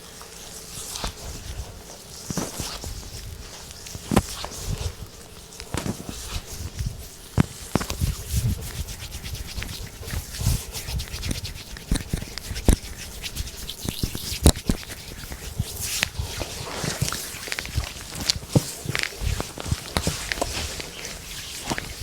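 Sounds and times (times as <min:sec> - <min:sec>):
hands rubbing over skin: 0:00.1 - 0:22.0.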